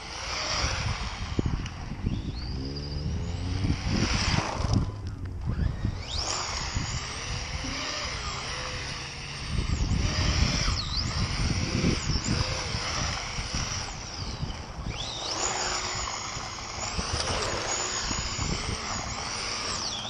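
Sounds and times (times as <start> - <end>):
electric motor whining: 0.0 - 20.0
steady low hum: 0.0 - 20.0.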